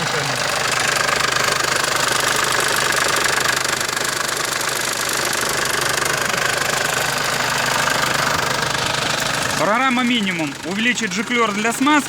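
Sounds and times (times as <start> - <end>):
diesel engine running: 0.0 - 12.0
rapid vacuum pump rattle: 0.0 - 12.0.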